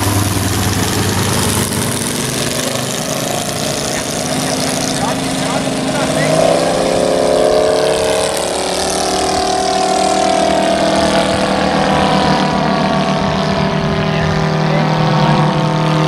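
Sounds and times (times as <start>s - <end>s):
biplane engines droning: 0.0s - 16.0s.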